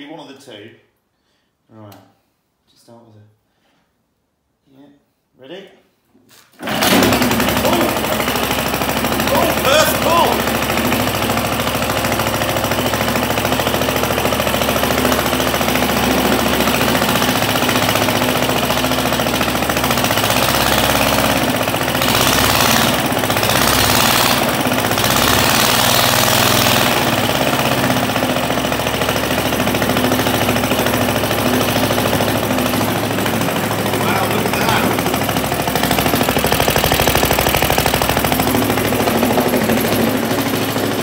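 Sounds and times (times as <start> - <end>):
lawnmower engine running: 6.6 - 41.0.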